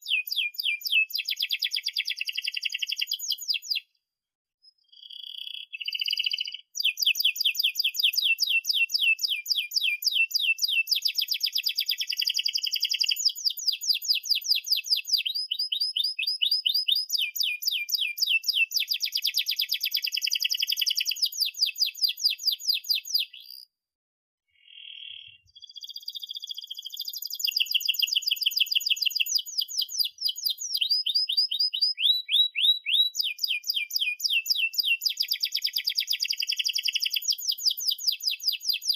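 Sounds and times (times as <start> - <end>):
canary singing trills: 0.0 - 3.9, 4.6 - 23.7, 24.5 - 38.9.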